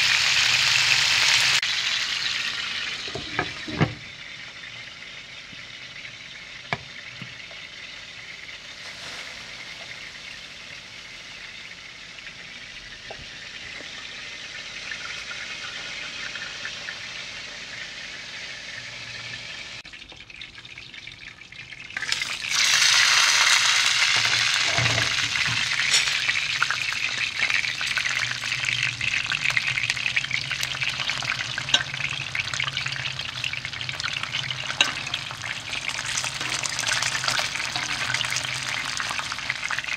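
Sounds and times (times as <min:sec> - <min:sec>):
fish sizzling in a pan: 0:00.0 - 0:20.1, 0:21.7 - 0:39.9.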